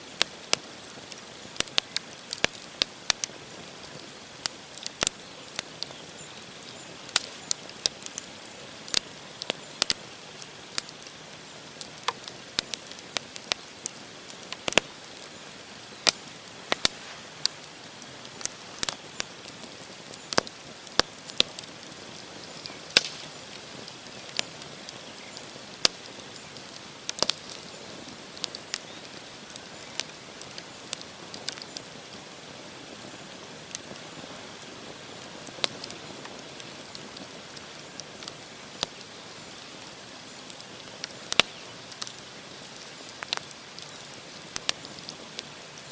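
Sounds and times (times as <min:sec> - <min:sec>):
campfire crackling and popping: 0:00.0 - 0:45.9
soft fire hiss: 0:00.0 - 0:45.9.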